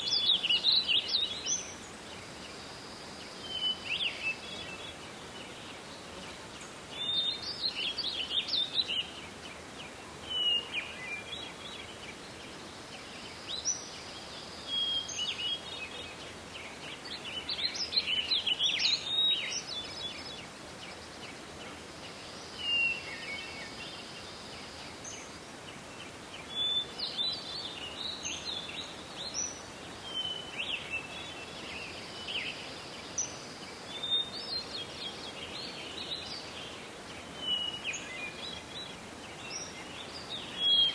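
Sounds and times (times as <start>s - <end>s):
birds chirping and twittering: 0.0s - 40.9s
steady background hiss: 0.0s - 40.9s.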